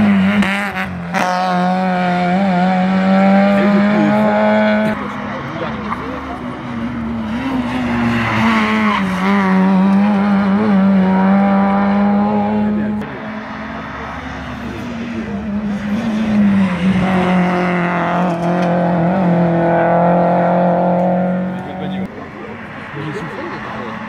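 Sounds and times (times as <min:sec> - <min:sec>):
rally car engine racing past: 0:00.0 - 0:24.0.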